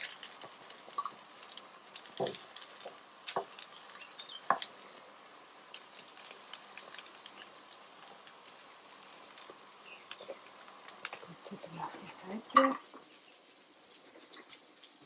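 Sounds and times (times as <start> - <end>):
cricket chirping: 0.0 - 15.0
vegetable sticks tapping on griddle: 0.0 - 15.0.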